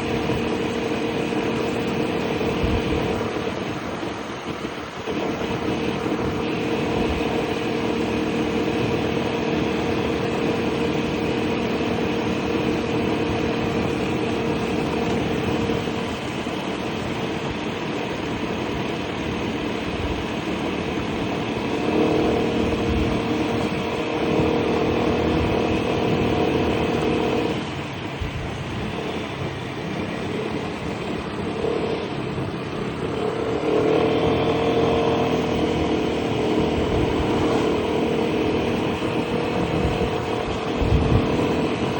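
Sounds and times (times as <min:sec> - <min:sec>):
scooter engine running: 0:00.0 - 0:41.9
wind and road noise: 0:00.0 - 0:41.9.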